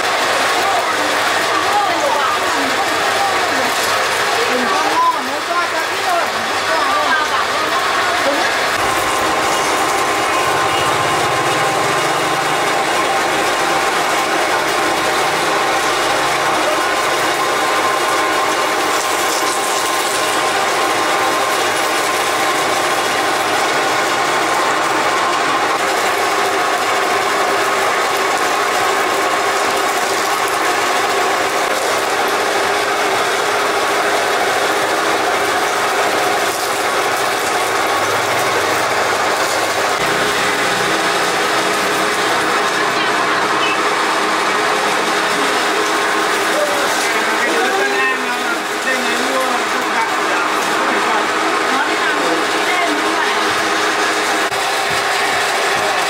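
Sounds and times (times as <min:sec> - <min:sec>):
machine rattling: 0:08.2 - 0:56.0.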